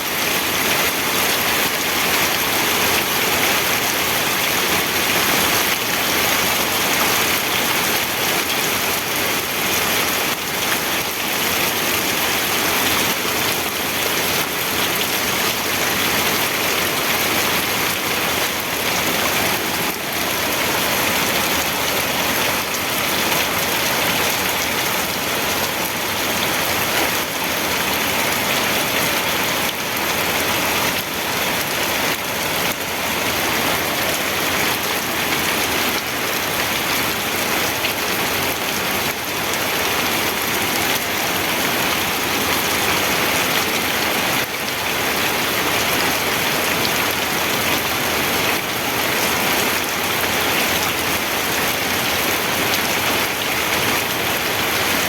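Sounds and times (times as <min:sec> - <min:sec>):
rain pattering: 0:00.1 - 0:55.0.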